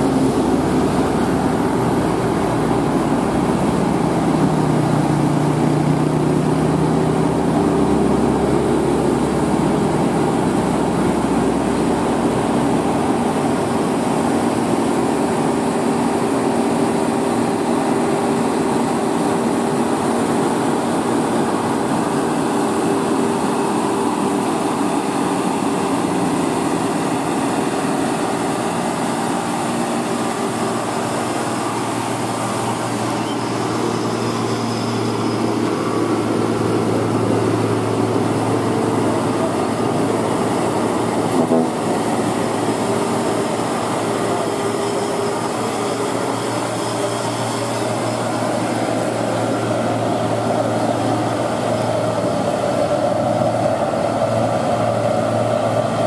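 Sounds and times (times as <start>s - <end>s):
dump truck diesel engines droning: 0.0s - 56.0s.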